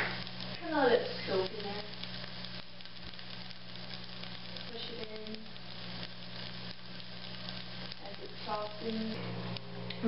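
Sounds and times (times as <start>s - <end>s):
stir-fry sizzling in a pan: 0.0s - 10.0s
ticks and pops: 0.0s - 10.0s.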